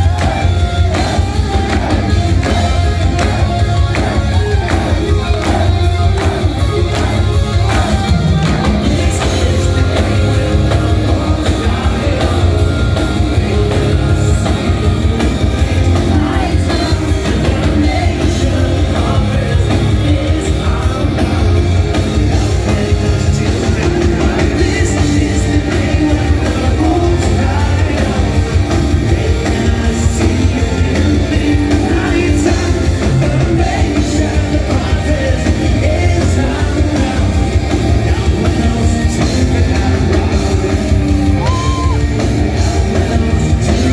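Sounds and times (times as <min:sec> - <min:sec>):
lead vocals singing: 0:00.0 - 0:43.9
metal band playing live: 0:00.0 - 0:43.9.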